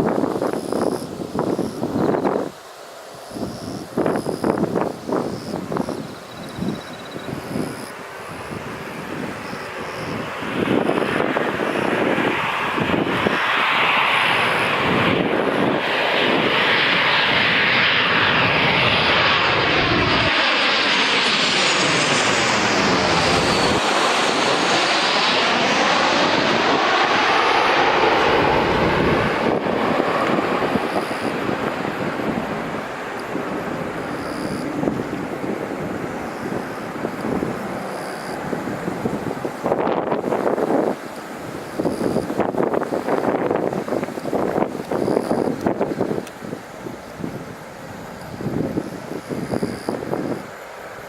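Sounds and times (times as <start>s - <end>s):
airliner engines passing: 0.0s - 51.0s
high fan whine falling in pitch: 0.0s - 51.0s.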